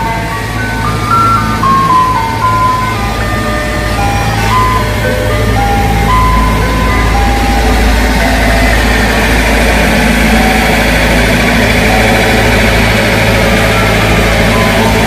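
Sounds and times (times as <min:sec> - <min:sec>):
ice cream truck chime melody: 0:00.0 - 0:15.0
truck engine running: 0:00.0 - 0:15.0.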